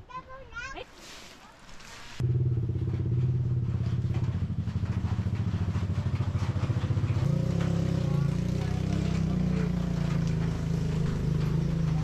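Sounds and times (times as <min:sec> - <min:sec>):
engine running: 0:02.2 - 0:12.0.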